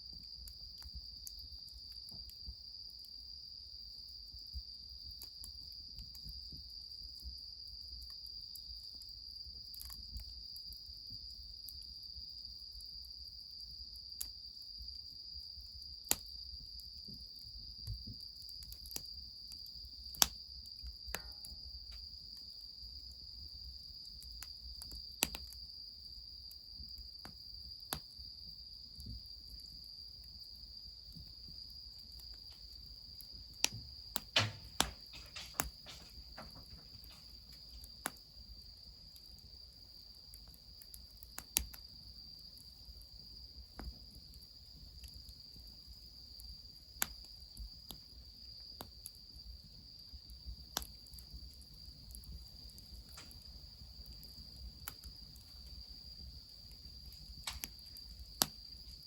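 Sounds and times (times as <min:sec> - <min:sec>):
crickets trilling: 0:00.0 - 0:59.0
wood fire crackling: 0:00.0 - 0:59.0.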